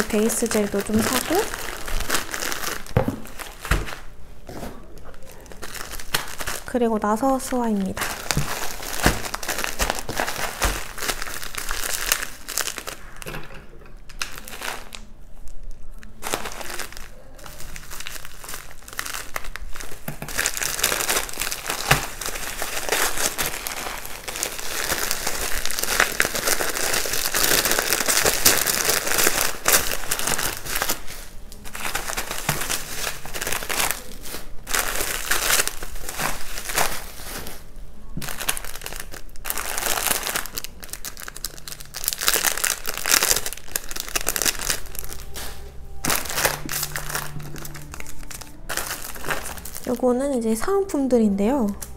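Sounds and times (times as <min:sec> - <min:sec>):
packaging crinkling and rustling: 0:00.0 - 0:51.9.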